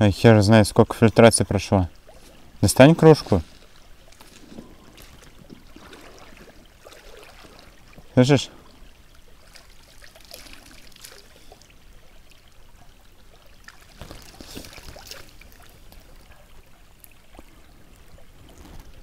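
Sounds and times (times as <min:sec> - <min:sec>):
river water splashing and trickling: 0:00.0 - 0:19.0.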